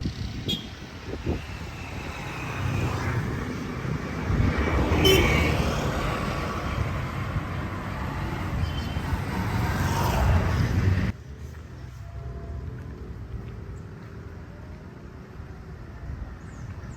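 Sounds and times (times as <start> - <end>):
vehicle passing with road noise: 0.0 - 16.9.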